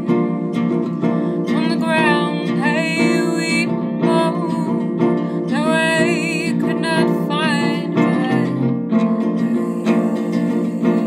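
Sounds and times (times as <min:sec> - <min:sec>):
plucked acoustic guitar: 0:00.0 - 0:11.0
woman singing with vibrato: 0:00.0 - 0:11.0.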